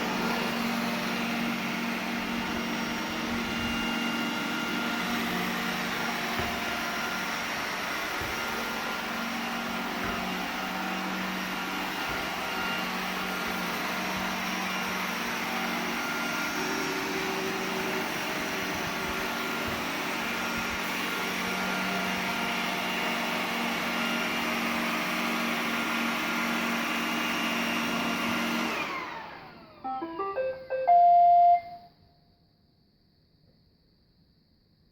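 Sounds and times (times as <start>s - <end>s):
robot vacuum whirring: 0.0s - 29.8s.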